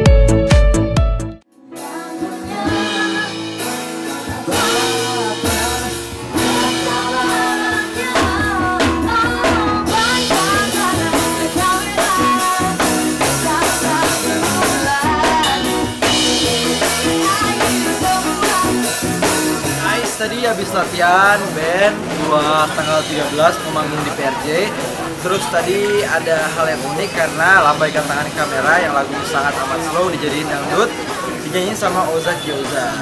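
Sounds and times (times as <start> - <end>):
live band playing: 0.0 - 33.0
people singing into microphones: 1.6 - 33.0.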